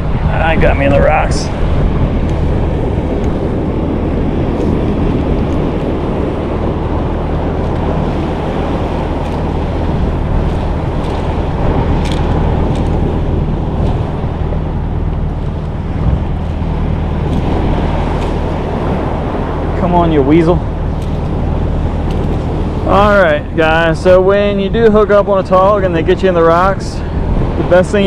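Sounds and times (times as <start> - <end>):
boat motor humming: 0.0 - 28.0
wind buffeting microphone: 0.0 - 28.0.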